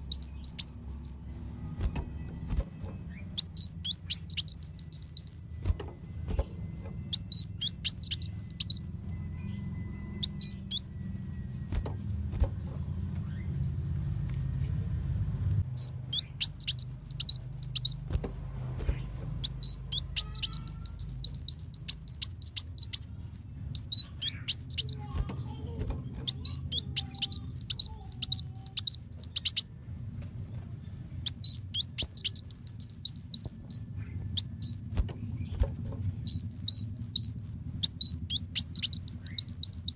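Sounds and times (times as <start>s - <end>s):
bird twittering: 0.0s - 29.7s, 30.8s - 39.9s.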